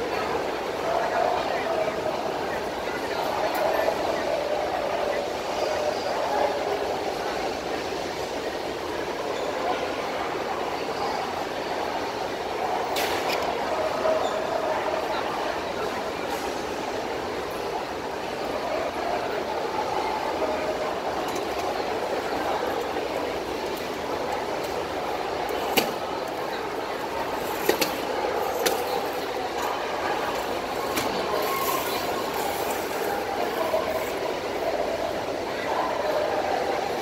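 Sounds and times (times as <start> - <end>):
crowd hubbub: 0.0 - 37.0
faint distant voices: 0.0 - 37.0.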